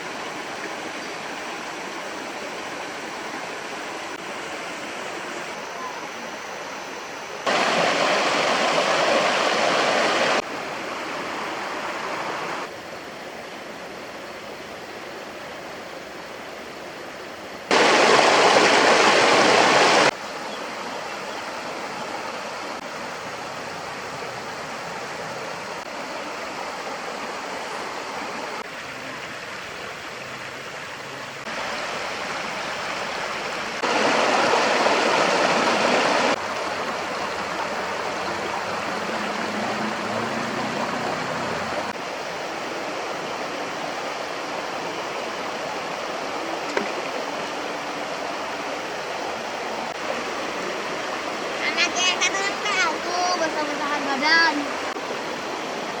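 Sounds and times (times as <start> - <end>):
stream water running over rocks: 0.0 - 56.0.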